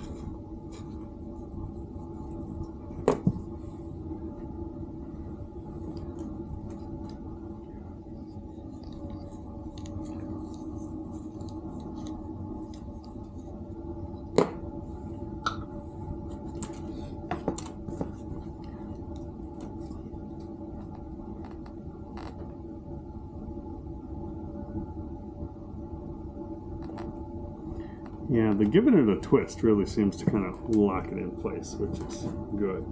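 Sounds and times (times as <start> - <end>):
steady hum: 0.0 - 32.9.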